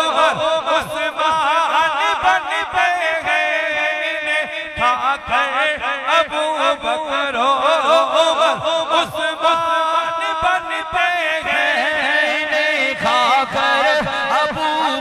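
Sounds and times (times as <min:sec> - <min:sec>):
man singing in chanting style: 0:00.0 - 0:15.0.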